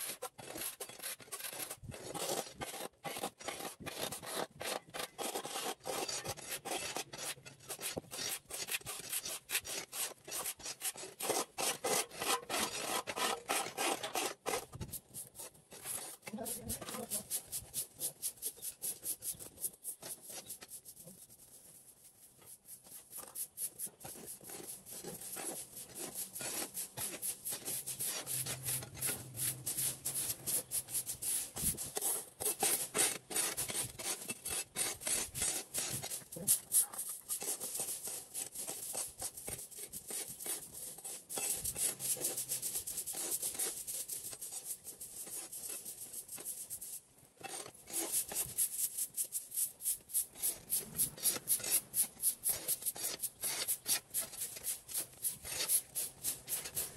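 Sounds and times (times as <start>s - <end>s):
rubbing and scraping strokes: 0.0s - 56.9s.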